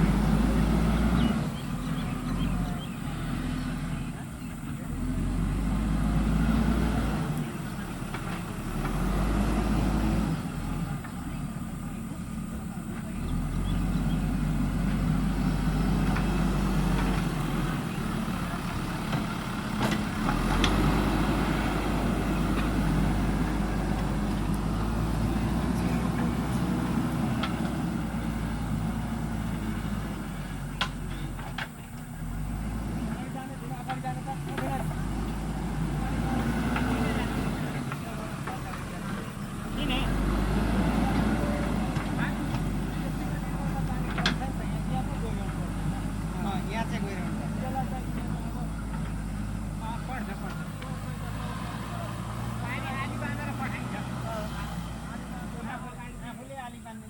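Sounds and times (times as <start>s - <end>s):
diesel engine surging under load: 0.0s - 57.0s.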